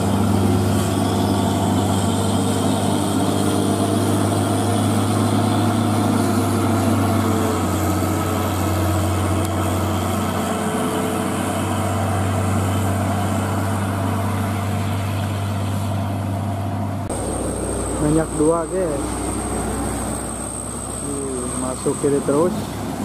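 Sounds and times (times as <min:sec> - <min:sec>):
diesel truck engine droning uphill: 0:00.0 - 0:23.0.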